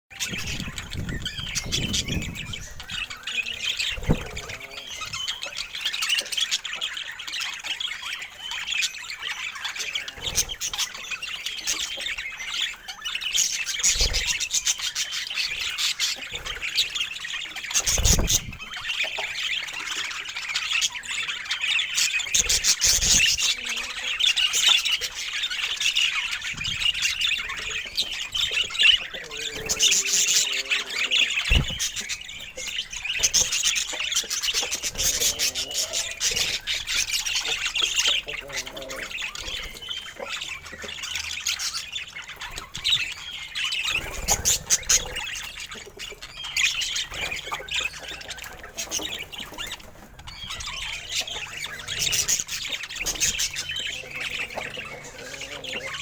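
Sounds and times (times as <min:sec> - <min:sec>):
budgerigars chattering: 0:00.1 - 0:56.0.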